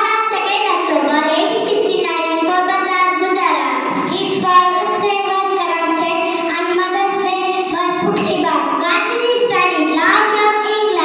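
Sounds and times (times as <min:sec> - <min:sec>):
girl singing through microphone: 0:00.0 - 0:11.0.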